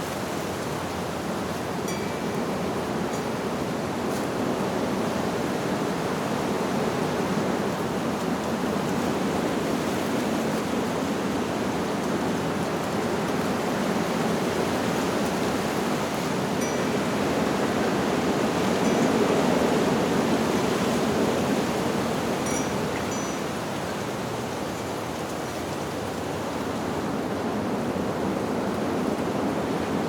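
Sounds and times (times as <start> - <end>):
wind blowing through leaves: 0.0 - 30.0.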